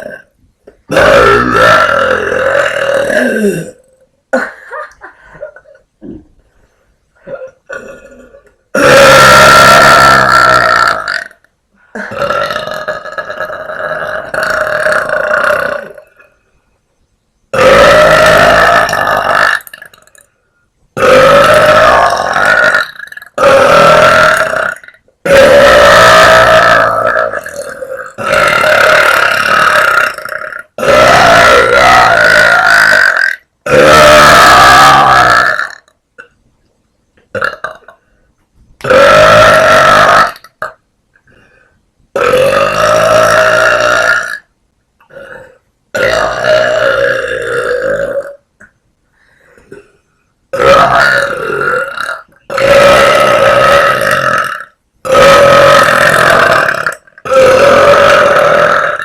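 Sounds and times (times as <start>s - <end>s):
woman burping loudly: 0.9s - 6.4s, 7.2s - 16.2s, 17.6s - 20.3s, 21.0s - 36.4s, 37.3s - 38.0s, 38.8s - 41.4s, 42.2s - 44.5s, 45.1s - 48.4s, 49.6s - 59.0s.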